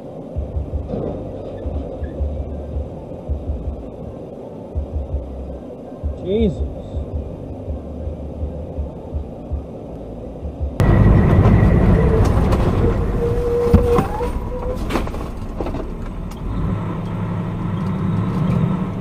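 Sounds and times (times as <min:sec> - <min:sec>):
road noise: 0:00.0 - 0:19.0
vehicle engine rumble: 0:00.0 - 0:19.0.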